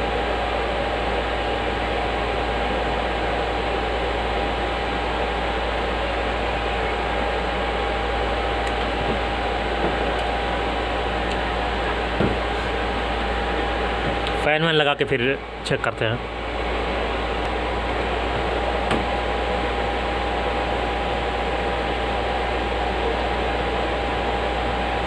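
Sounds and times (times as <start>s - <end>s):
electric fan whirring: 0.0s - 25.0s
faint high hum: 0.0s - 25.0s.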